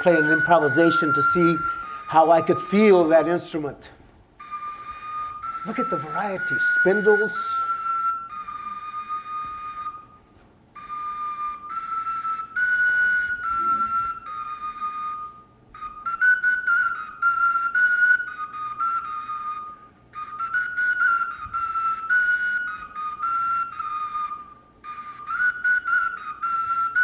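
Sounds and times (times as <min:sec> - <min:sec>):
ocarina playing high notes: 0:00.0 - 0:27.0.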